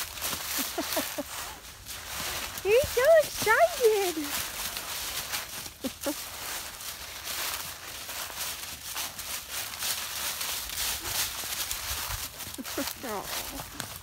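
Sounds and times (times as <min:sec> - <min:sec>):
crunching and rustling: 0:00.0 - 0:14.0.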